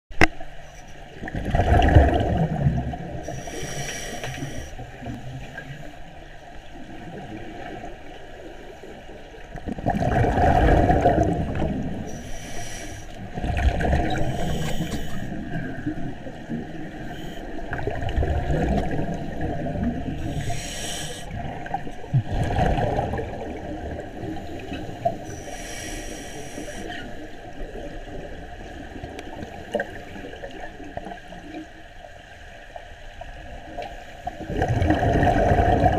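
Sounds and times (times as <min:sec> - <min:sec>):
exhaled bubbles gurgling: 0:01.1 - 0:05.9, 0:06.6 - 0:31.7, 0:33.2 - 0:35.9.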